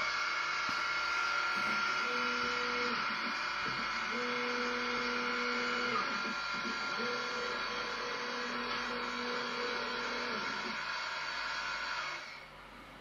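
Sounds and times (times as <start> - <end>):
telescope drive motors whining: 0.0 - 12.5.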